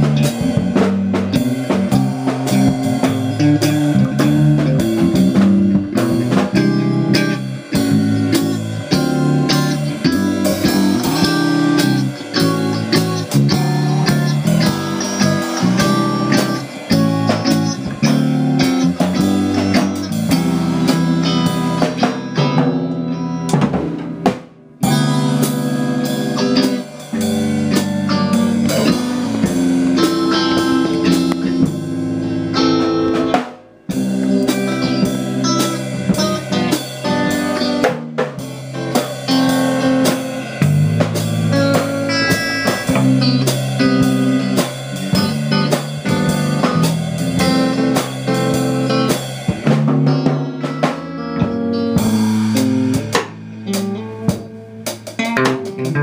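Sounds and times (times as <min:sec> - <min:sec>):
drum kit: 0:00.0 - 0:56.0
electric bass: 0:00.0 - 0:56.0
electric guitar: 0:00.0 - 0:56.0.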